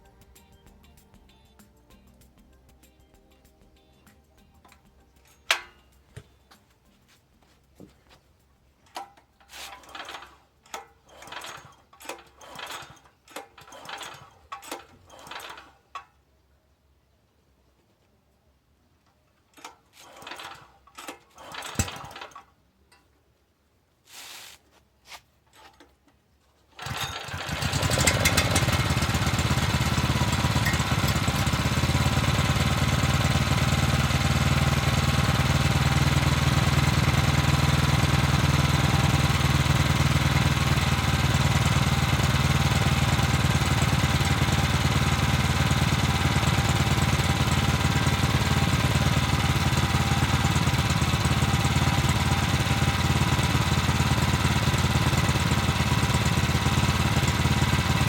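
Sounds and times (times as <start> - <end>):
petrol engine starting and running: 0.0 - 6.2, 8.8 - 16.1, 19.5 - 22.5, 26.7 - 58.0.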